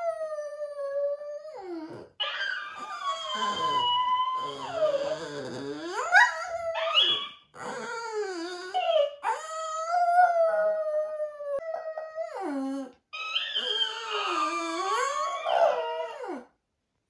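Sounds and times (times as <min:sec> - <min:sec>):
dog howling: 0:00.0 - 0:16.5.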